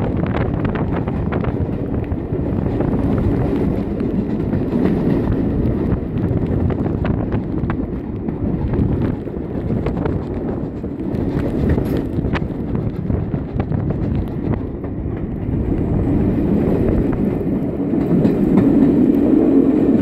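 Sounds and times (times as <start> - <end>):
train carriages rumbling on rails: 0.0 - 20.0
wind rushing over microphone: 0.0 - 20.0.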